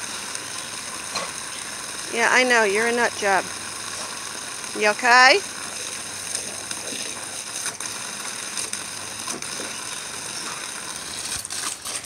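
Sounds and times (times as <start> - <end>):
hose water spraying: 0.0 - 12.0.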